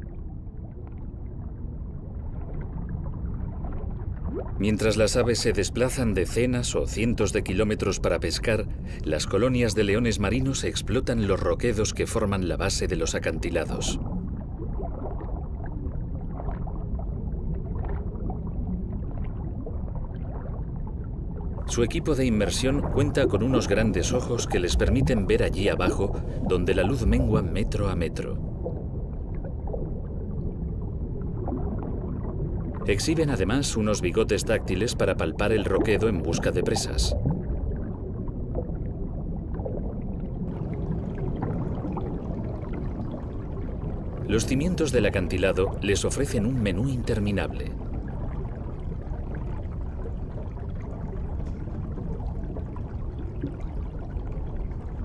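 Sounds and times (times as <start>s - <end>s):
faint bubbling and crackling: 0.0s - 55.0s
underwater rumble of moving water: 0.0s - 55.0s.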